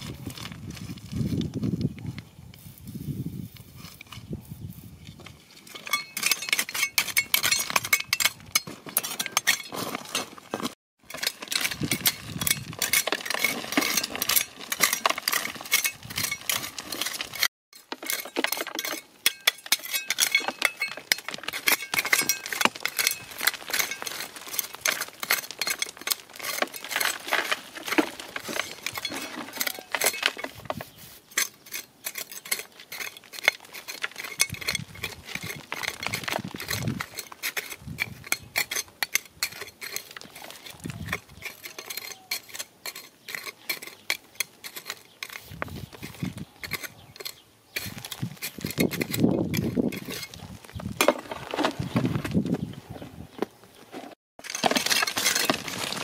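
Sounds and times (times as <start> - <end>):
stones clinking together: 5.7 - 52.6, 54.4 - 56.0.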